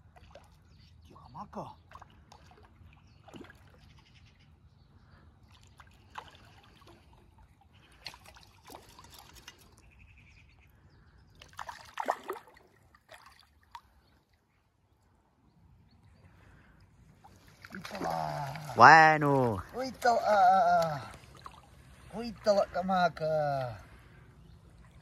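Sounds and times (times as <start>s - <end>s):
water splashing and sloshing: 0.0s - 10.0s, 11.3s - 25.0s.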